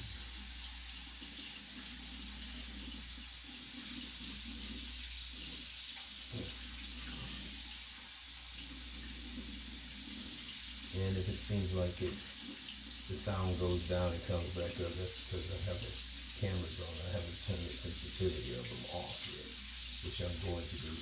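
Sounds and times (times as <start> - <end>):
faucet running into sink: 0.0 - 21.0.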